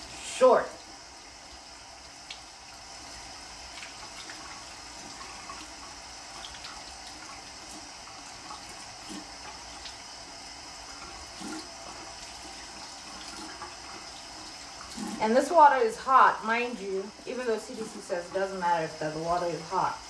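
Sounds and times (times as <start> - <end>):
faucet running: 0.0 - 20.0.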